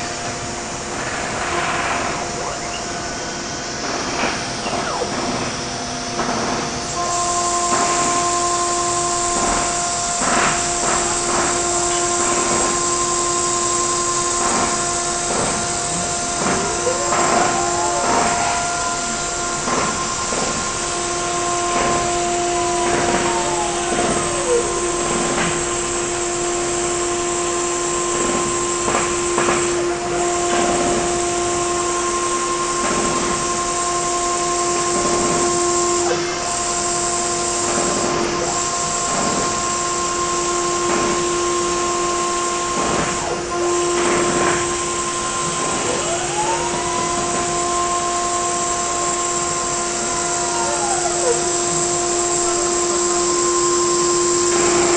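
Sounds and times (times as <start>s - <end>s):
router spindle whine: 0.0s - 54.9s.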